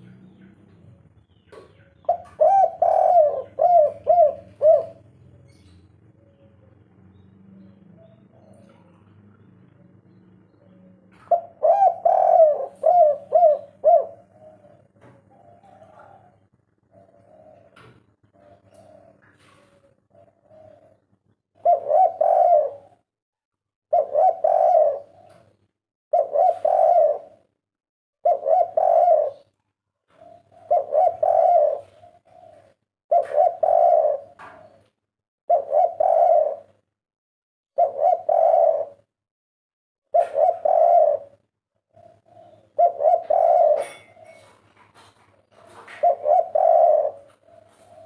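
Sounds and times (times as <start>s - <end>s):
dove cooing: 0.0s - 23.1s, 23.9s - 27.6s, 28.2s - 36.9s, 37.8s - 39.1s, 40.1s - 48.0s.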